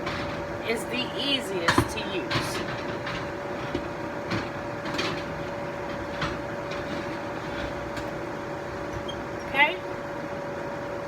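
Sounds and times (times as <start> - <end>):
kitchen appliance hum: 0.0 - 11.0.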